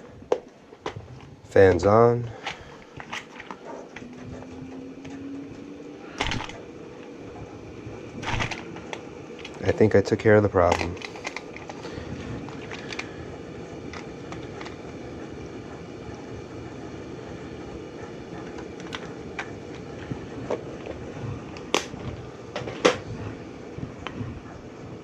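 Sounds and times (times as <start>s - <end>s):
furnace blower fan running: 0.0s - 25.0s.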